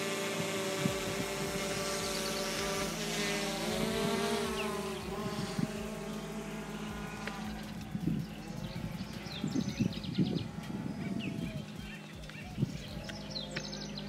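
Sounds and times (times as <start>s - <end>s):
drone propellers buzzing: 0.0s - 14.0s.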